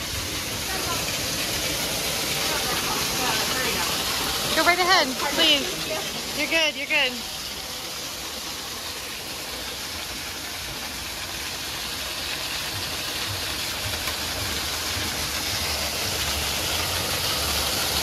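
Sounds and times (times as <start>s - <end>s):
waterfall splashing into pool: 0.0s - 18.0s.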